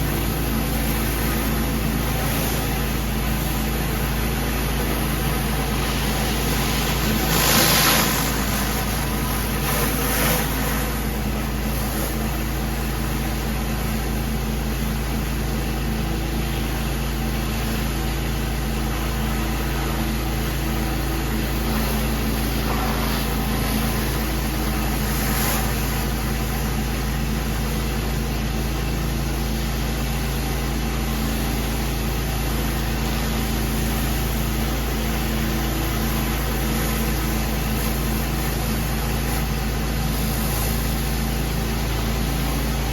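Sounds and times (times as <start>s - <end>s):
pressure washer engine running: 0.0s - 42.9s.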